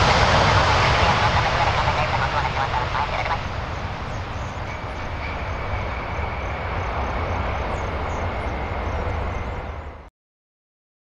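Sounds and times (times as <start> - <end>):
jet engines roaring: 0.0 - 10.1.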